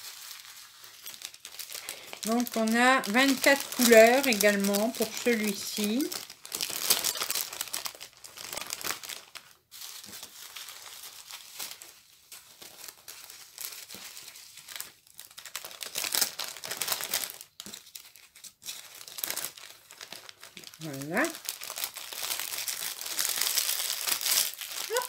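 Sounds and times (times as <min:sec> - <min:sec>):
packaging crinkling: 0:00.0 - 0:25.0.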